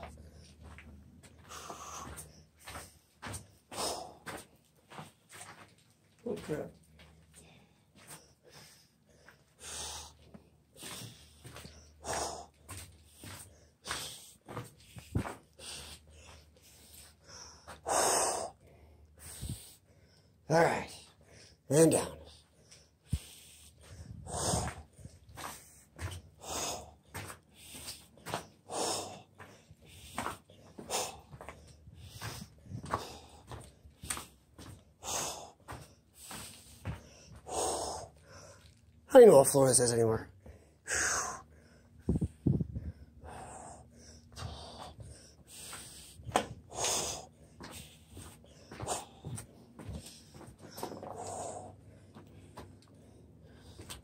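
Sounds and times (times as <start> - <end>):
man breathing hard: 0.0 - 5.6, 7.0 - 38.8, 40.3 - 54.0
man panting: 0.0 - 5.6, 7.3 - 38.8, 40.3 - 54.0
footsteps going down stairs: 0.0 - 18.7, 21.9 - 39.6, 42.0 - 54.0.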